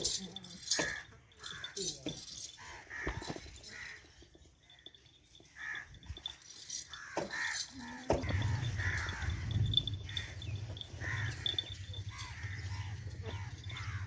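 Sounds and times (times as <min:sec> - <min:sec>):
crows cawing: 0:00.6 - 0:04.4, 0:05.3 - 0:14.0.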